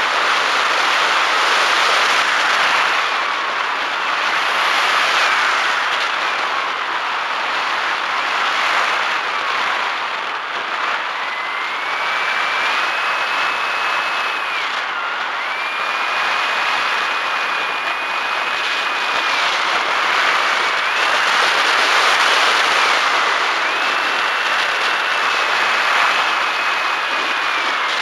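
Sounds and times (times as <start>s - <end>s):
electric motor whining: 0.0s - 28.0s.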